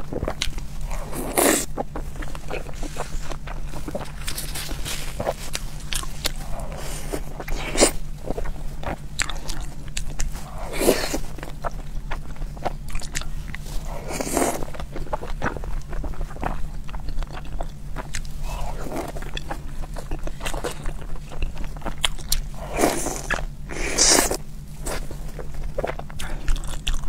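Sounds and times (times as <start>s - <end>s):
person chewing dumplings: 0.0s - 27.0s
steady low hum: 0.0s - 27.0s.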